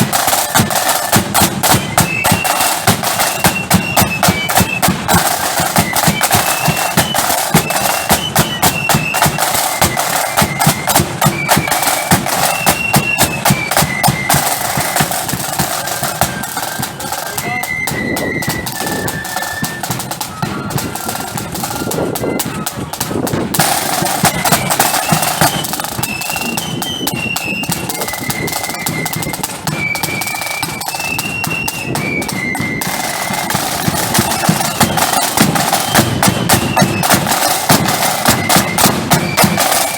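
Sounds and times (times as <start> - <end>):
flutes playing high melody: 0.0 - 39.9
rapid snare drumming: 0.0 - 39.9.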